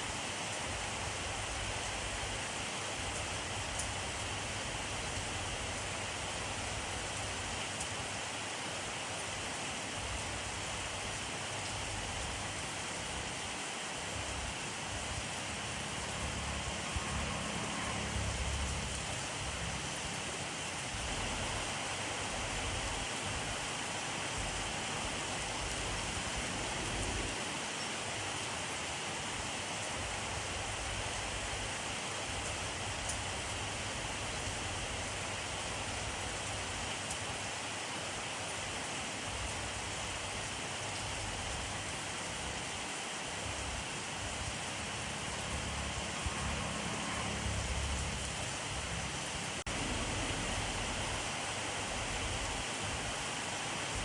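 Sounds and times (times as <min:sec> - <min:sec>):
rain hissing on surfaces: 0:00.0 - 0:54.0.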